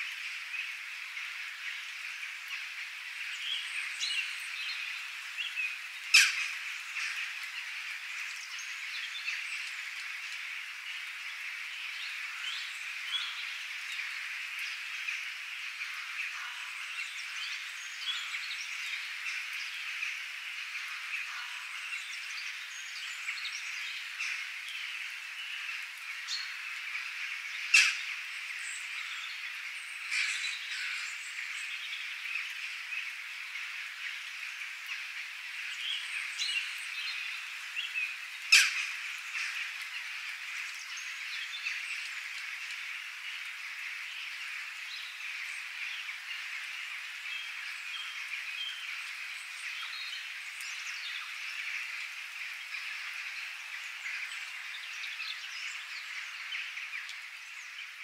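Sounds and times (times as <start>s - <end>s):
gentle rain: 0.0s - 58.0s.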